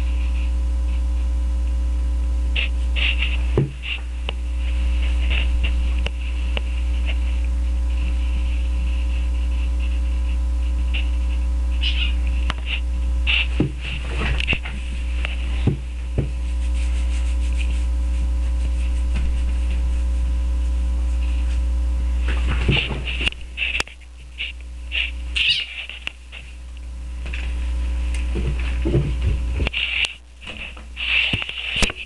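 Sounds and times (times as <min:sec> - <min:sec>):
low electrical hum: 0:00.0 - 0:32.0
cats scuffling among pillows: 0:02.6 - 0:32.0.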